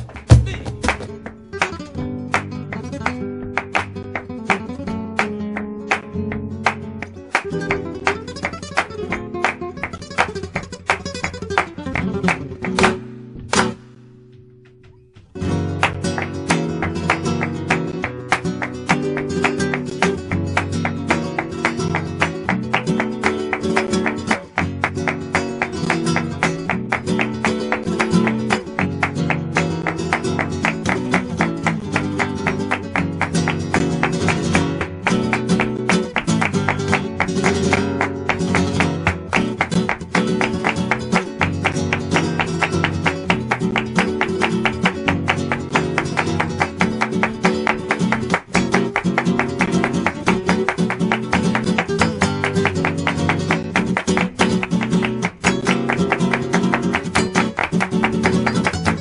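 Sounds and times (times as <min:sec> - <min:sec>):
fast flamenco guitar: 0:00.0 - 0:59.0.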